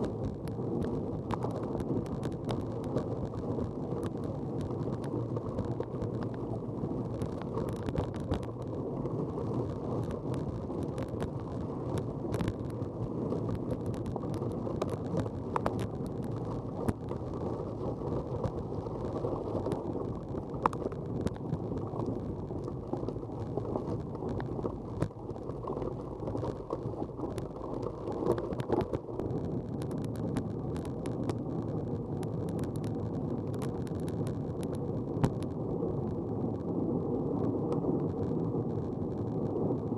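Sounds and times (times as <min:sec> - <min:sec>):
small clicks and rattles: 0:00.0 - 0:36.7
muffled wind and riding noise: 0:00.0 - 0:39.9.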